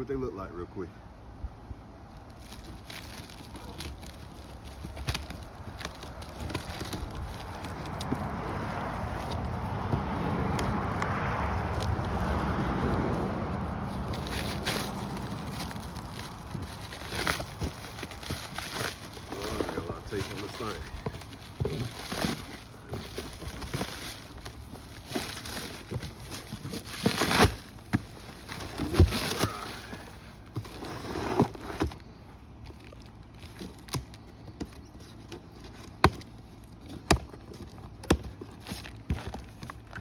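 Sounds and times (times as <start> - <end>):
cardboard rustling and scraping: 2.0 - 40.0.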